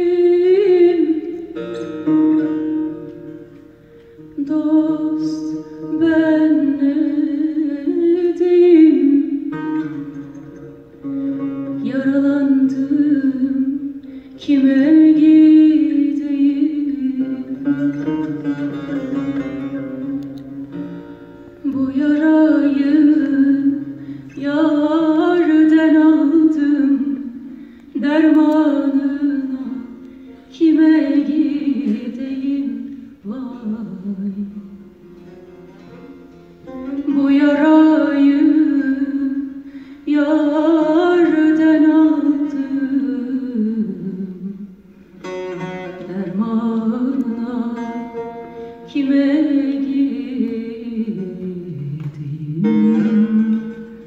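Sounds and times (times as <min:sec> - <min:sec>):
plucked lutes playing: 0:00.0 - 0:54.0
woman singing folk song: 0:00.0 - 0:54.0.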